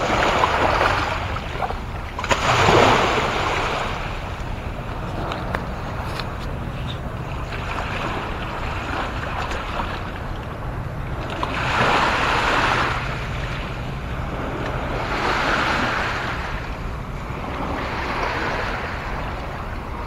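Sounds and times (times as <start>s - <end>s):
waves washing onto shore: 0.0s - 20.0s
wind rumble on microphone: 0.0s - 20.0s.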